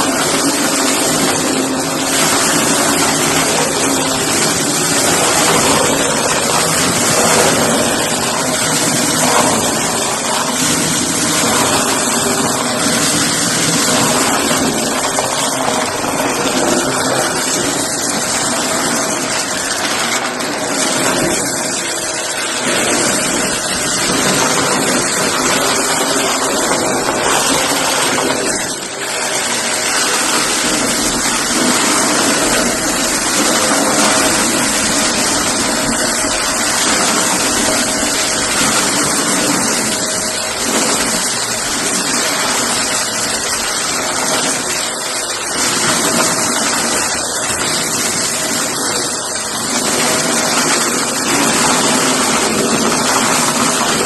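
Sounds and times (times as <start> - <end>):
vacuum cleaner sucking up cardboard: 0.0 - 54.0.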